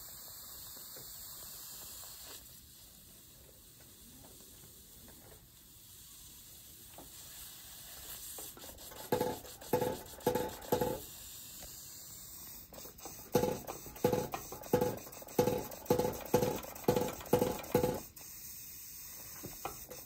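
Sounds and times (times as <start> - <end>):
toy steam engine hissing: 0.0 - 20.0.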